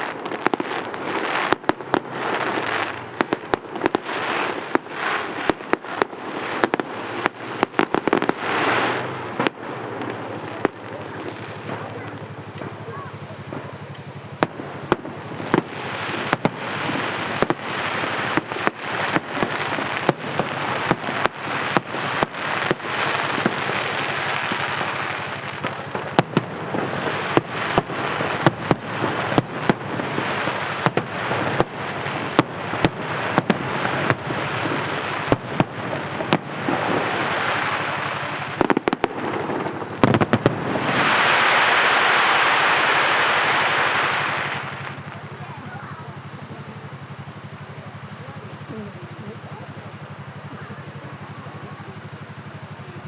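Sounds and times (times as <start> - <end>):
fireworks bursting: 0.0 - 53.0
hissing crackle of fireworks: 0.0 - 53.0.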